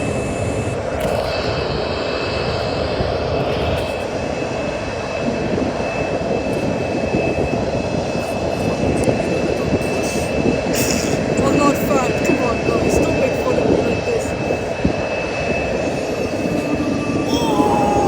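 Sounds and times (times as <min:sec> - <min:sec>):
airliner engines roaring: 0:00.0 - 0:18.0
high engine whine: 0:00.0 - 0:18.0.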